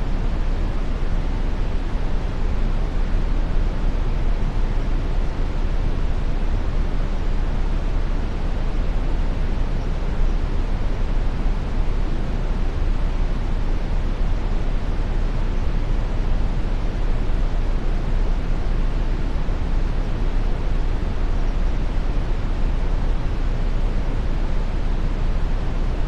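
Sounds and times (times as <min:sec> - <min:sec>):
steady brown noise hiss: 0:00.0 - 0:26.0.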